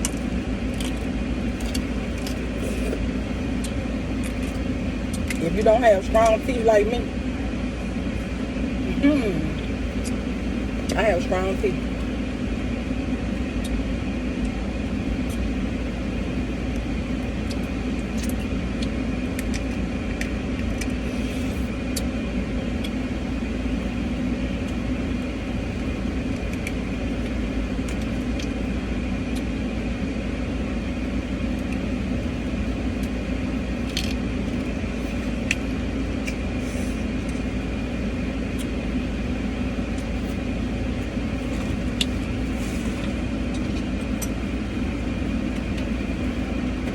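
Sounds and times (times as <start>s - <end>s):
car engine idling hum: 0.0s - 46.9s.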